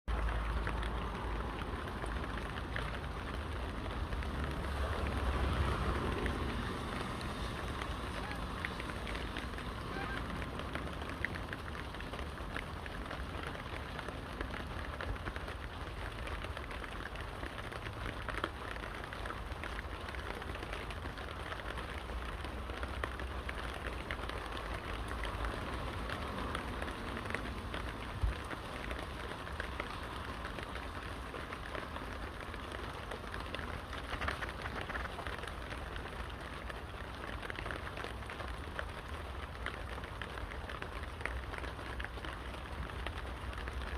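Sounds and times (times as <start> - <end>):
rain pattering: 0.0 - 43.9
firewood crackling: 0.1 - 43.9.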